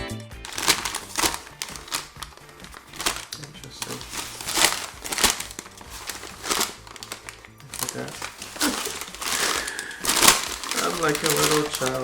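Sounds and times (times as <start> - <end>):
quiet background music: 0.0 - 12.0
packaging crinkling: 0.4 - 12.0.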